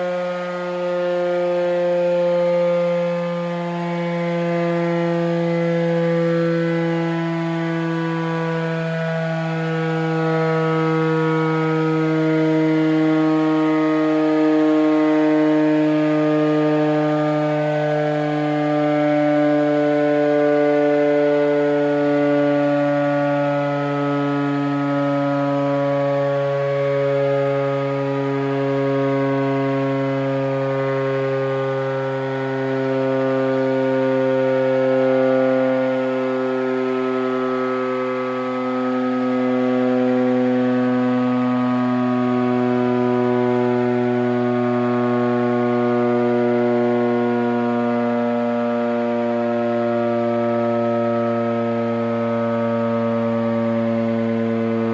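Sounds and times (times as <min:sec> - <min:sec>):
emergency alert siren drone: 0:00.0 - 0:54.9.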